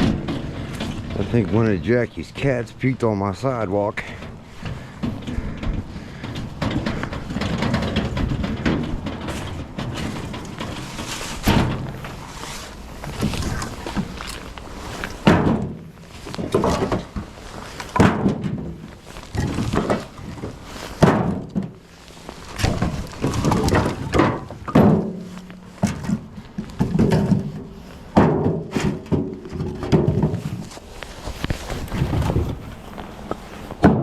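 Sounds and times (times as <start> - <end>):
firewood pieces knocking together: 0.0 - 2.6, 4.0 - 34.0.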